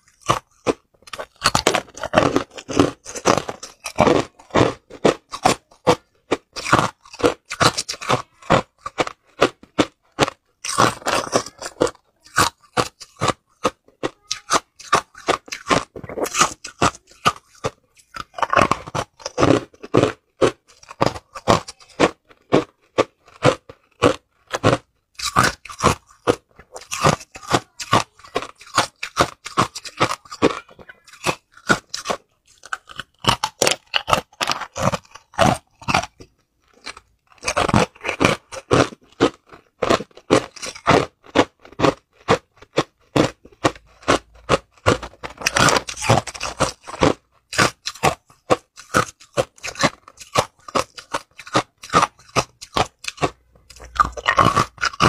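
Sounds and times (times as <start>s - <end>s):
ice cubes crunching: 0.0s - 55.0s.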